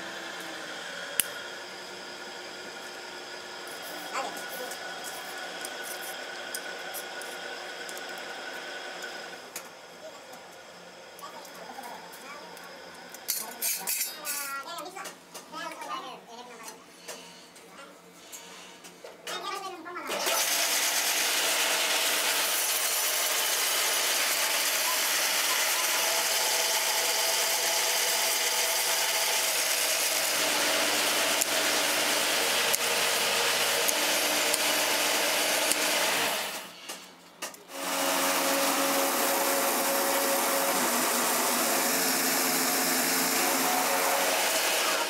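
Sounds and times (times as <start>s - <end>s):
wire stripping machinery running: 0.0s - 14.1s, 20.1s - 45.0s.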